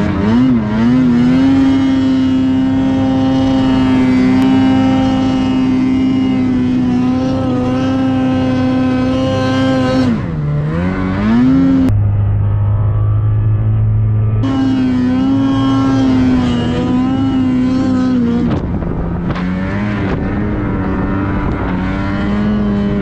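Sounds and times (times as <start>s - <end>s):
snowmobile engine revving: 0.0s - 11.9s, 13.7s - 23.0s.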